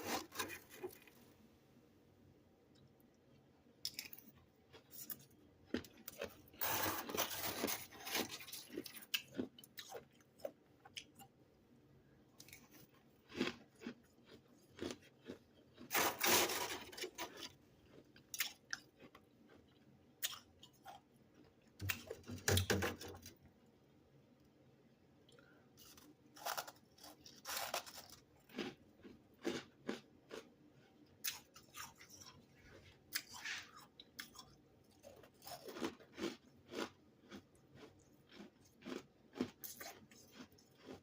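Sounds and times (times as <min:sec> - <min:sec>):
person chewing crunchy frost: 0:00.0 - 0:01.3, 0:03.9 - 0:11.4, 0:12.4 - 0:23.2, 0:25.3 - 0:41.0.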